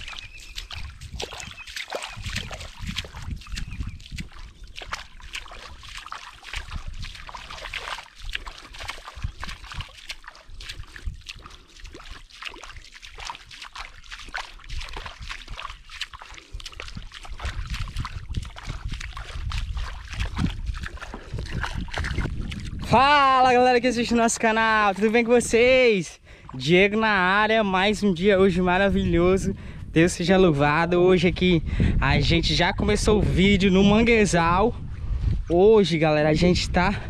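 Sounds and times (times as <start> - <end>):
feet wading through shallow water: 0.0 - 31.6.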